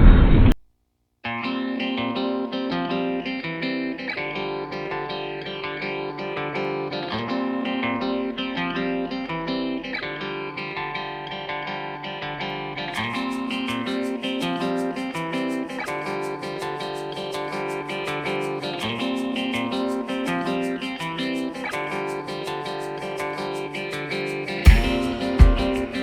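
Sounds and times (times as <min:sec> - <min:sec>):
instrumental guitar music: 0:01.2 - 0:26.0.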